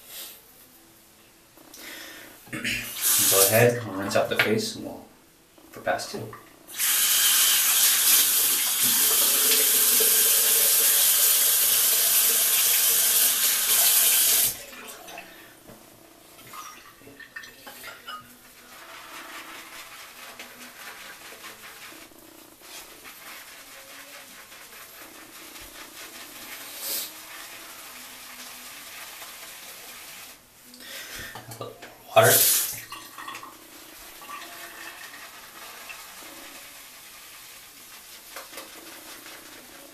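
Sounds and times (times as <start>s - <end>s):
bathroom tap running: 2.5s - 4.6s, 5.7s - 15.8s, 16.4s - 39.9s.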